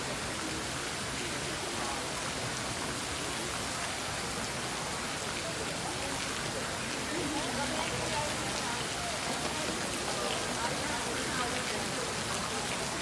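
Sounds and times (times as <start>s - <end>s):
fountain water splashing into pool: 0.0s - 13.0s.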